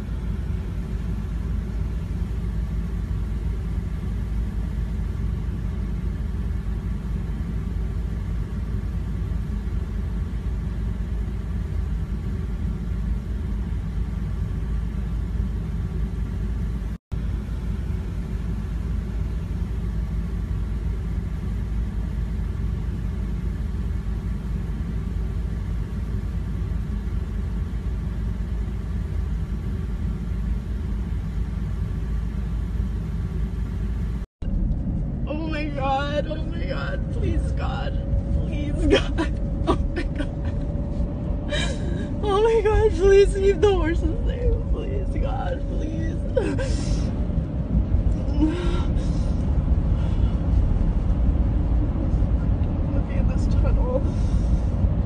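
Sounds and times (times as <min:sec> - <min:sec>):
car driving on a road: 0:00.0 - 0:55.0.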